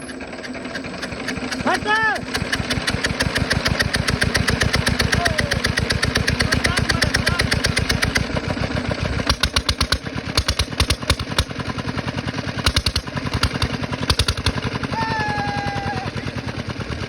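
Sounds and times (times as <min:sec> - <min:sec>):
engine running with pulsing beat: 0:00.0 - 0:17.0.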